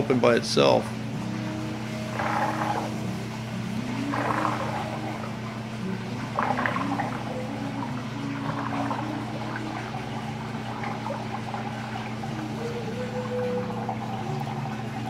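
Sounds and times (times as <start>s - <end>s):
pump humming: 0.0s - 15.0s
water pouring and gurgling: 1.0s - 15.0s.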